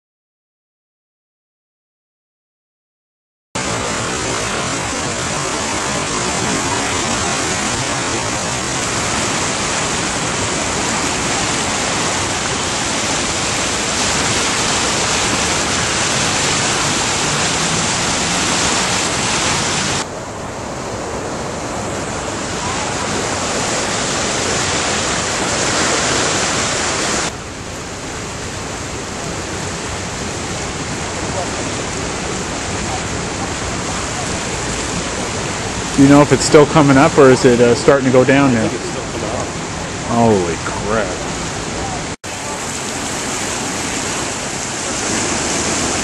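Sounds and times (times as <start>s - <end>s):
floodwater rushing: 3.6s - 46.0s.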